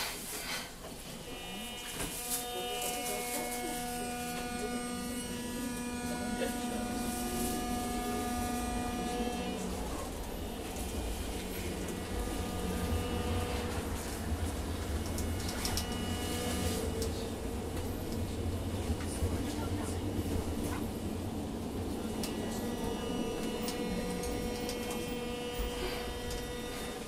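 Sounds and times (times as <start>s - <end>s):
tram motor whine: 0.0s - 27.0s
low running rumble: 2.4s - 27.0s.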